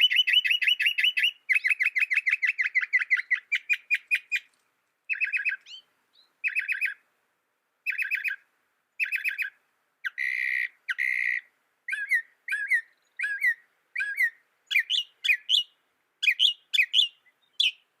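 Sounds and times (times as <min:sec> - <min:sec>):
mockingbird singing: 0:00.0 - 0:04.5, 0:05.1 - 0:07.0, 0:07.8 - 0:08.4, 0:09.0 - 0:18.0.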